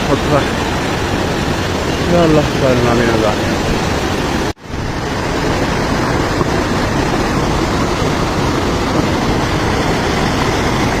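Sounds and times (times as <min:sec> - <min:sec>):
rushing floodwater roar: 0:00.0 - 0:11.0.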